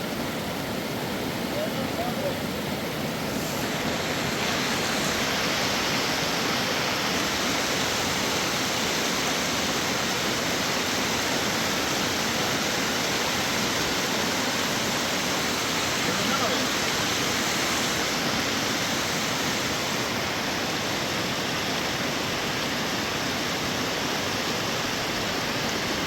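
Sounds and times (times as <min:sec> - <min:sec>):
water rushing: 0:00.0 - 0:26.0.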